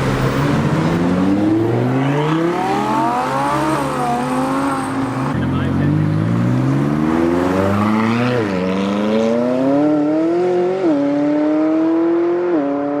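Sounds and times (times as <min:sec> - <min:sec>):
car engine accelerating through gears: 0:00.0 - 0:13.0.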